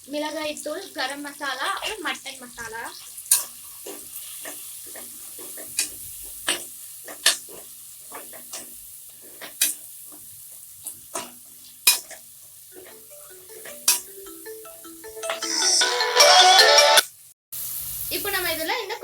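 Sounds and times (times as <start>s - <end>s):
oil sizzling in a pot: 0.0s - 14.5s, 17.0s - 19.0s.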